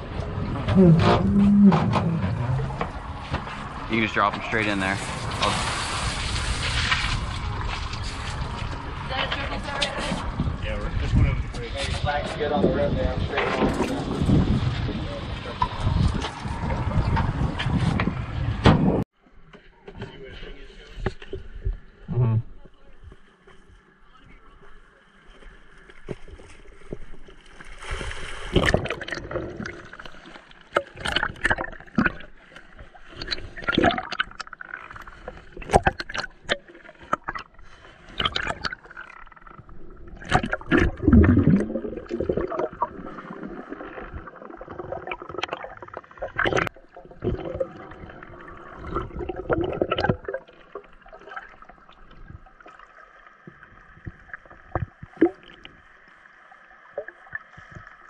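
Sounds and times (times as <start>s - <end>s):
water gurgling and sloshing: 0.0s - 19.4s, 20.4s - 58.0s
rush of water: 2.1s - 18.3s, 26.4s - 58.0s.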